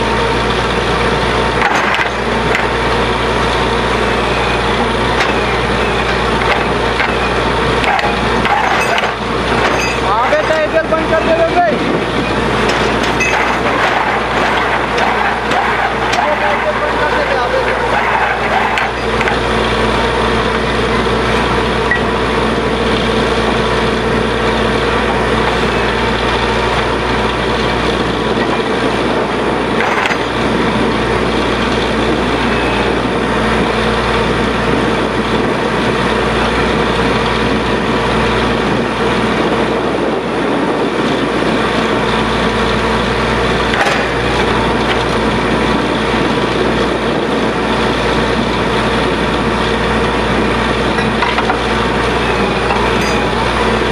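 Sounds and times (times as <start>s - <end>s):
drilling rig running: 0.0s - 53.9s.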